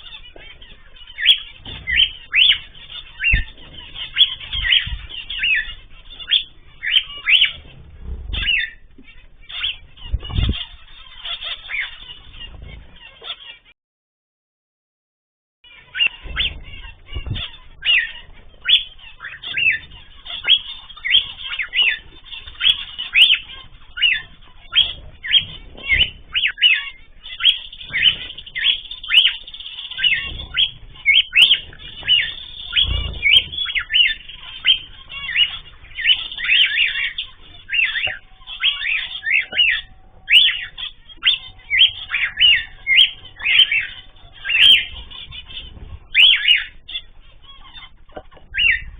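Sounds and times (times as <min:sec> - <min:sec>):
cage birds chirping: 0:00.0 - 0:13.7, 0:15.6 - 0:48.9.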